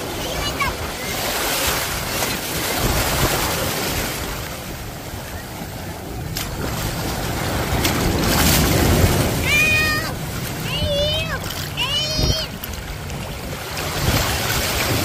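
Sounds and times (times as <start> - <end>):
small waves sloshing in surf: 0.0 - 15.0
wind rumbling on microphone: 0.0 - 15.0.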